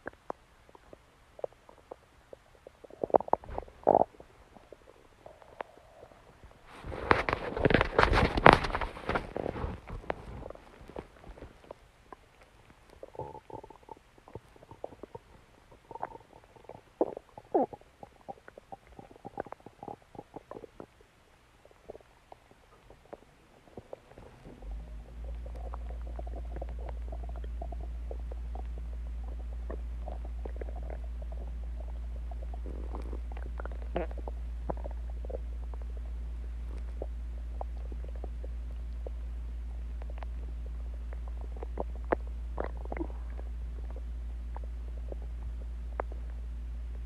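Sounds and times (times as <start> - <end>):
stomach pops and clicks: 0.0 - 6.0, 6.7 - 21.0, 21.7 - 39.2, 39.9 - 47.0
steady low hum: 0.0 - 47.0
stomach rumble: 0.0 - 47.0.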